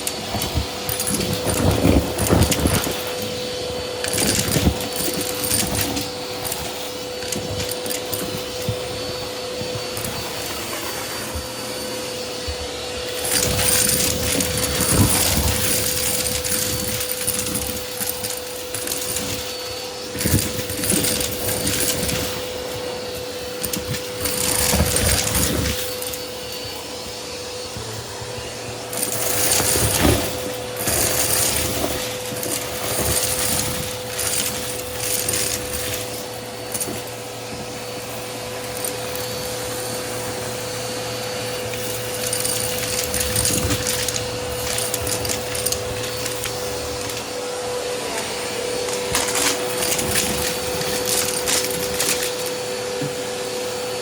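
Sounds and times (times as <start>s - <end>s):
debris rattling through vacuum: 0.0s - 11.5s, 12.7s - 53.3s
vacuum cleaner motor whine: 0.0s - 54.0s.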